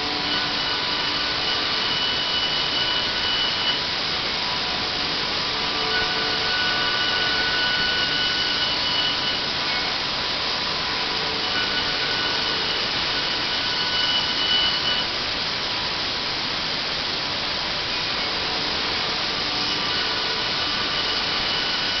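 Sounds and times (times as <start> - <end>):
panel saw whirring: 0.0 - 15.1, 17.9 - 22.0
high saw whine: 0.0 - 22.0.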